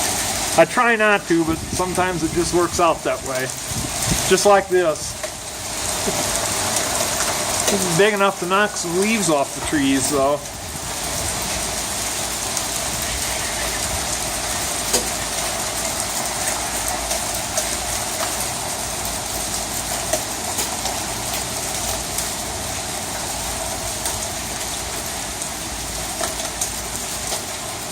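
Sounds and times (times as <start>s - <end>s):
hail pelting down: 0.0s - 27.9s.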